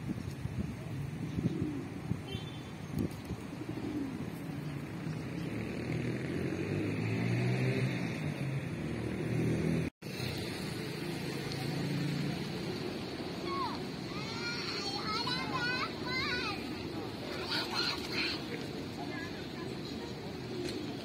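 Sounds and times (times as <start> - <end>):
city background noise: 0.0 - 21.0
low hum of motor vehicles: 0.0 - 21.0.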